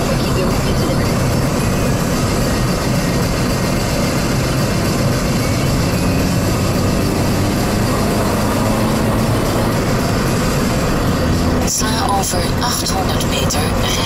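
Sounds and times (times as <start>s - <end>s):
car engine hum: 0.0s - 14.0s
in-cabin road noise rumble: 0.0s - 14.0s.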